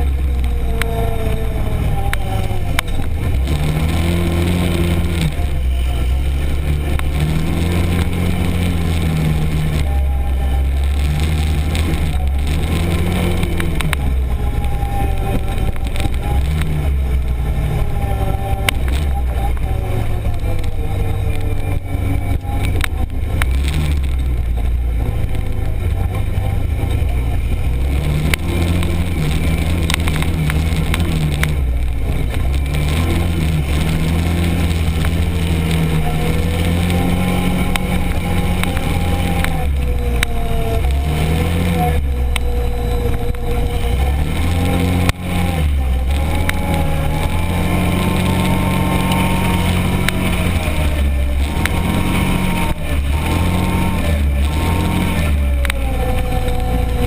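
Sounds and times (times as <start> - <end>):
clicks and knocks over rough ground: 0.0 - 57.0
utility vehicle engine running: 0.0 - 57.0.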